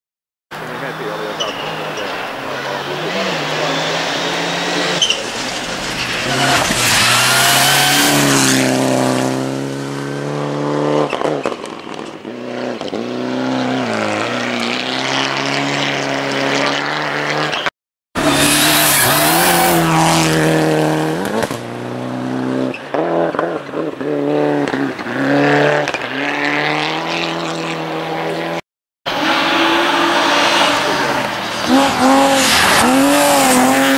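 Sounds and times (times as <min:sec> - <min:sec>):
rally car engines revving: 0:00.6 - 0:33.9.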